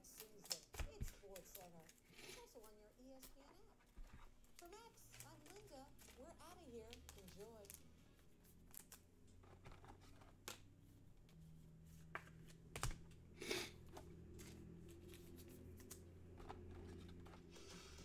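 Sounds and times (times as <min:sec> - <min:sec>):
cards handled clicks and rustles: 0:00.0 - 0:18.0
low steady hum: 0:00.0 - 0:18.0.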